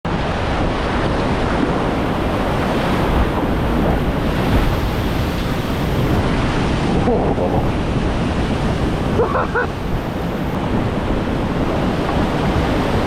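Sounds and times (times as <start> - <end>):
creek rapids rushing: 0.1 - 13.0
wind buffeting microphone: 0.1 - 13.0.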